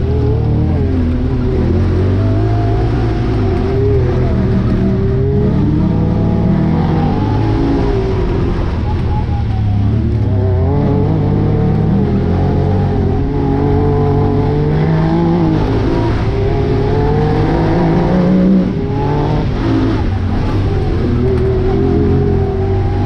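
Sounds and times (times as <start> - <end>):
utv engine revving: 0.0 - 23.0.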